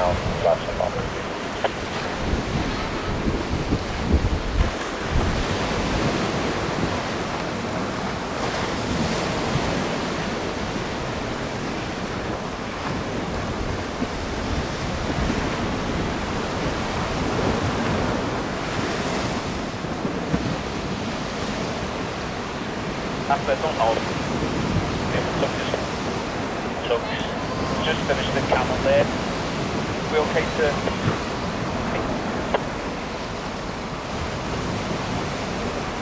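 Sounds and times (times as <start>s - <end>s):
choppy river water: 0.0s - 36.0s
wind buffeting microphone: 0.0s - 36.0s.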